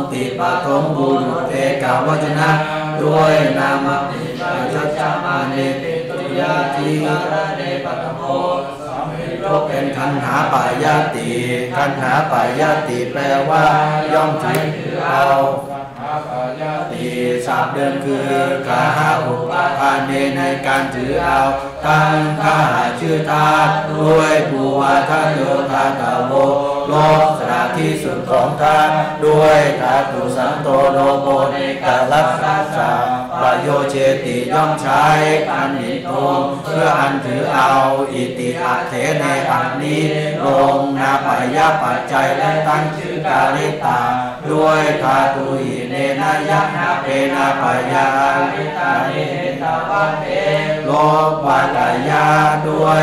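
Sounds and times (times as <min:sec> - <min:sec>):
man chanting: 0:00.0 - 0:53.0.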